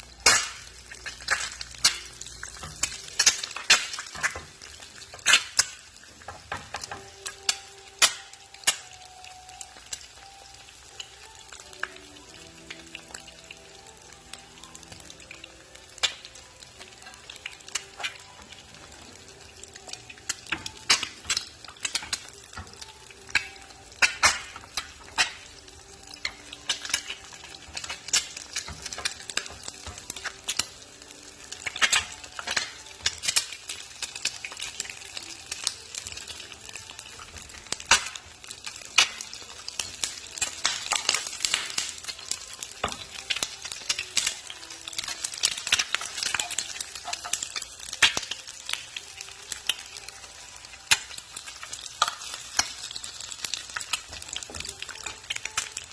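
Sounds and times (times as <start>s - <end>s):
eggs frying in hot oil: 0.0s - 55.9s.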